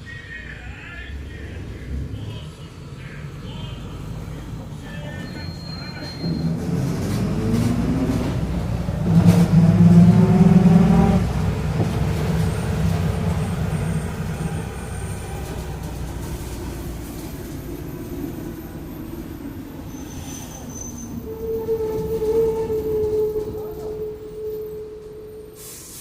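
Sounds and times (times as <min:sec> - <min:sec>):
bus engine: 0:00.0 - 0:26.0.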